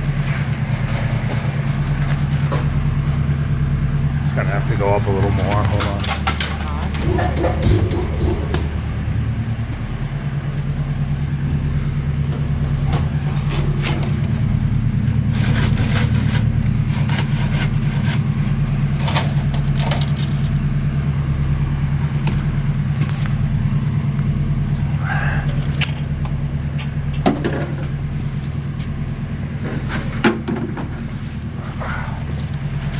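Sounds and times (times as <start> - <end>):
hydraulic power unit humming: 0.0 - 32.9.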